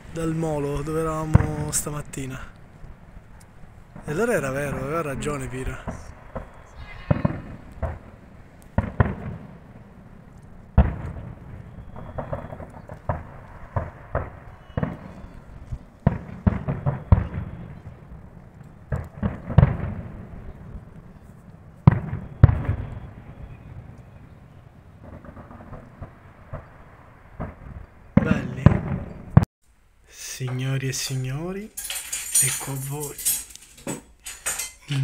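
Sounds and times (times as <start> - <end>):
fireworks bangs: 0.0 - 29.5.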